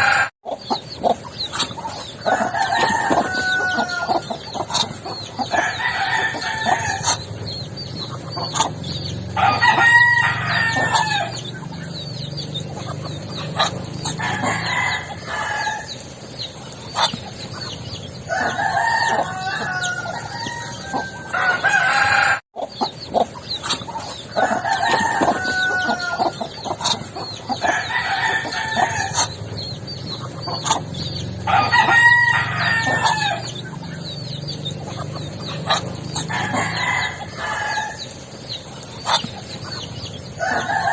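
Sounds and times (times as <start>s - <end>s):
chickens clucking: 0.0s - 40.9s
roosters crowing: 0.0s - 40.9s.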